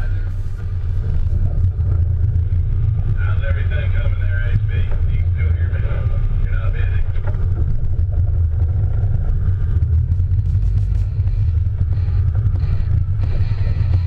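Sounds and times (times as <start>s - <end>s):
boat engines rumbling: 0.0s - 14.0s.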